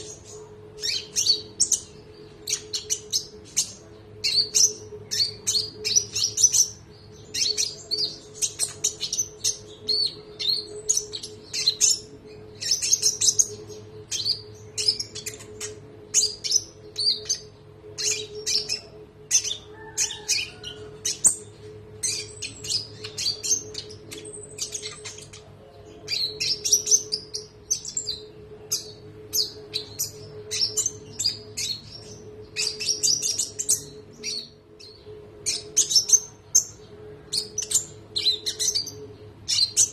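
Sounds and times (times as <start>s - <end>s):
faint steady hum: 0.0s - 39.9s
songbird singing: 0.0s - 39.9s.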